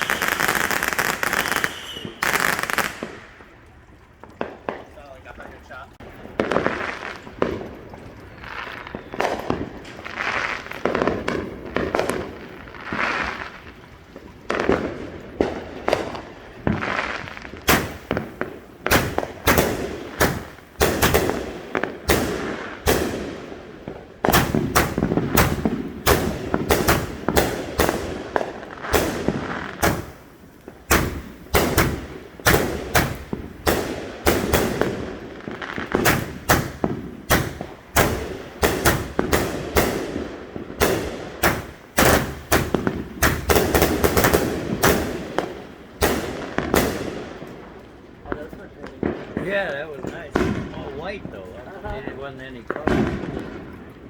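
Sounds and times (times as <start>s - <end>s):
fireworks bangs and cracks: 0.0s - 3.4s, 4.2s - 54.0s.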